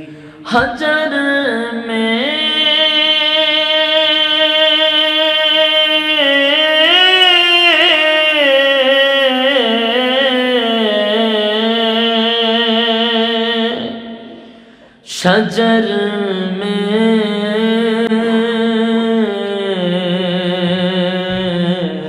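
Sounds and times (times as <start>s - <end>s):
man singing unaccompanied: 0.0s - 14.1s, 15.1s - 22.0s.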